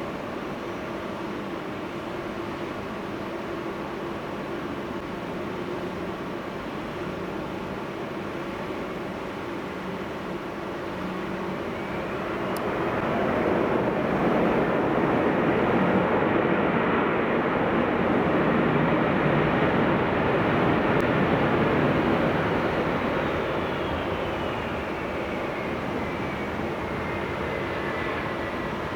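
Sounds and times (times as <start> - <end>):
engine whine: 0.0 - 28.9
jet airliner passing: 0.2 - 28.9.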